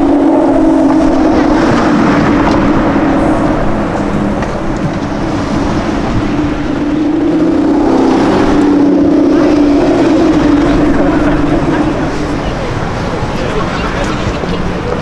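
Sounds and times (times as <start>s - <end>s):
car engine droning at low revs: 0.0s - 15.0s.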